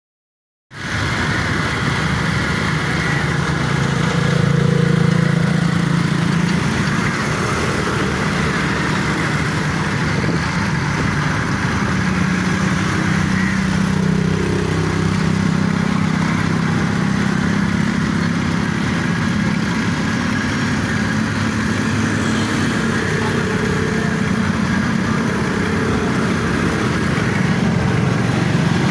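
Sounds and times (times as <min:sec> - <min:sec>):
engine running: 0:00.7 - 0:28.9.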